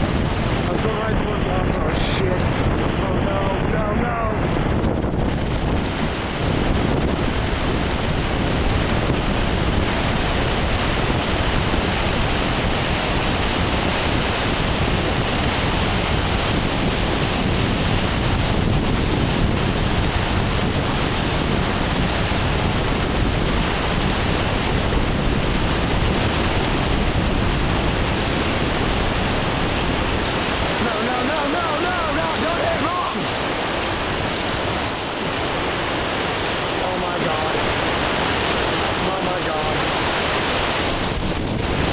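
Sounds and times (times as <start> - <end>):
heavy rain: 0.0 - 41.9
storm wind: 0.0 - 41.9.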